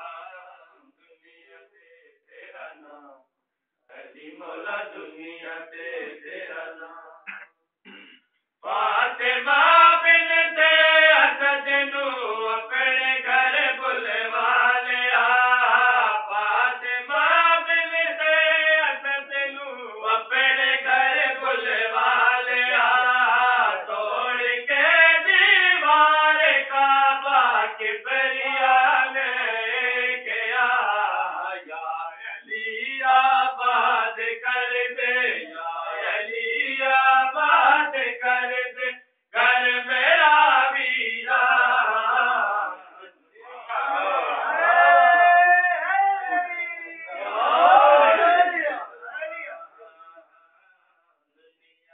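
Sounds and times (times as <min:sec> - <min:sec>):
men chanting together: 0:03.9 - 0:07.3, 0:08.6 - 0:50.2.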